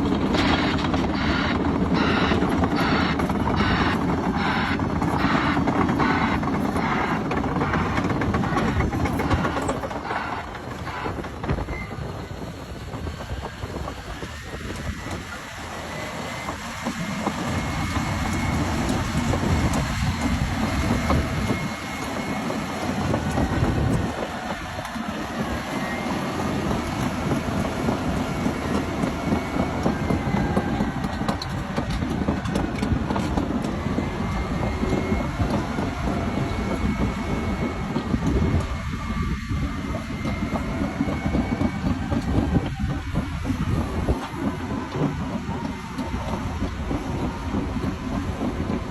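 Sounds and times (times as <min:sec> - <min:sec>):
diesel engine running hard: 0:00.0 - 0:48.9
steel tracks clattering: 0:00.0 - 0:48.9.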